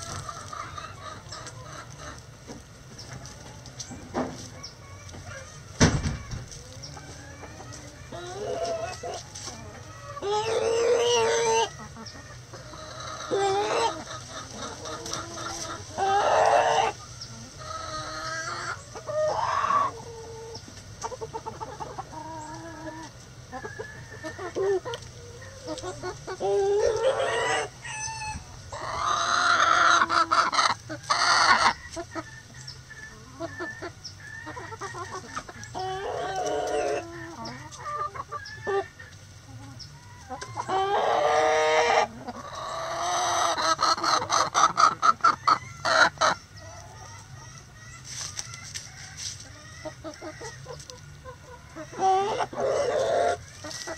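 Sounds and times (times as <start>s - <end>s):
chickens clucking and squawking: 0.0s - 53.9s.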